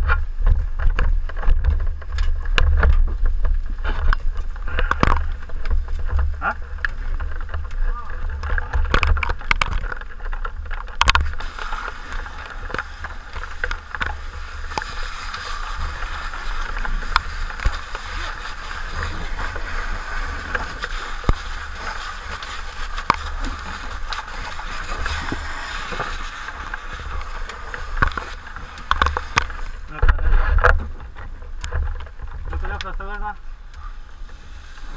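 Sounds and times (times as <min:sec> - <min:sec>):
fire hose spraying water: 0:00.7 - 0:34.9.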